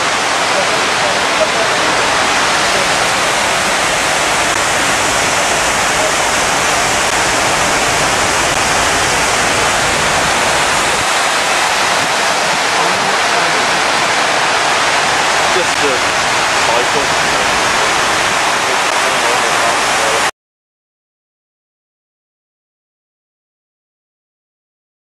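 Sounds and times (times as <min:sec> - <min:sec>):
waterfall pouring into basin: 0:00.0 - 0:20.3.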